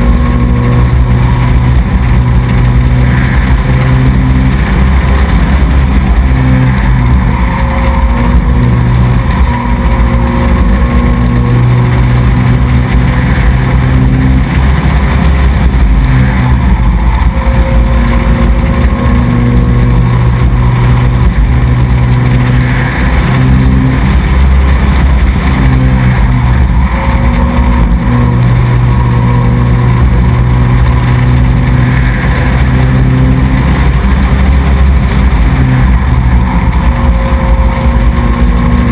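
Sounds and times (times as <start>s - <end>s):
race truck engine running hard: 0.0s - 38.9s.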